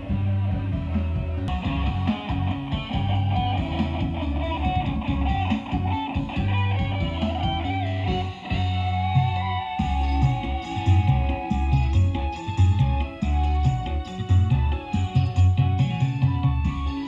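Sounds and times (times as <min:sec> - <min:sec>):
guitar-led music with heavy bass: 0:00.0 - 0:17.0.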